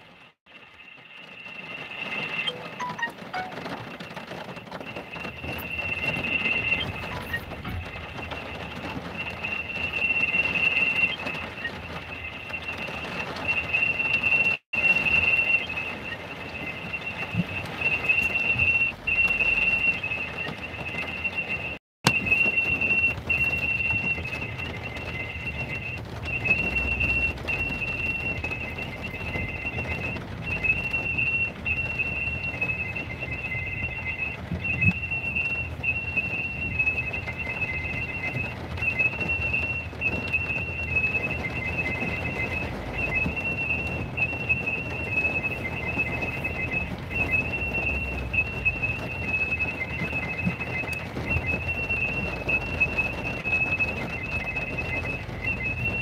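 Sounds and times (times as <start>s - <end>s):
high-pitched whistling tone: 0.8s - 56.0s.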